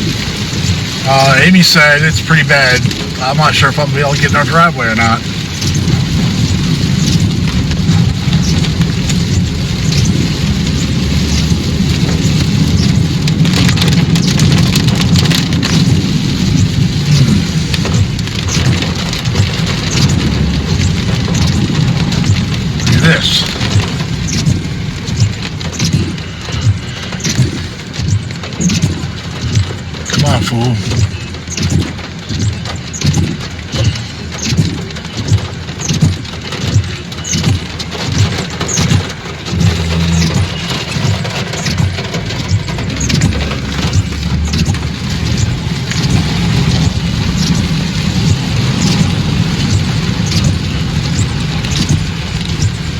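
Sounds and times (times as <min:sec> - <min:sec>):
car driving rumble: 0:00.0 - 0:52.9
rain on car roof: 0:00.0 - 0:52.9
windshield wipers sweeping: 0:00.0 - 0:52.9.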